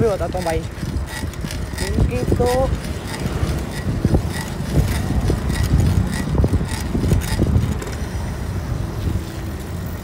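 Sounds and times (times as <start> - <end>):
tyres rumbling on asphalt: 0.0 - 10.0
wind buffeting microphone: 0.0 - 10.0.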